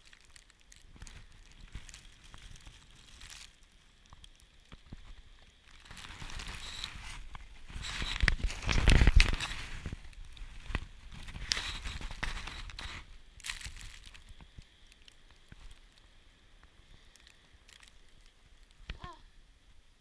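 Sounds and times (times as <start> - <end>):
faint crackles: 0.0 - 20.0.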